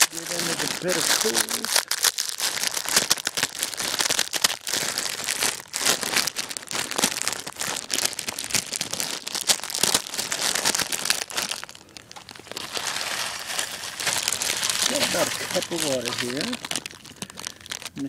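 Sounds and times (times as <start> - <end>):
dry noodles snapping and crunching: 0.0 - 18.0
plastic packet crinkling: 0.0 - 18.0.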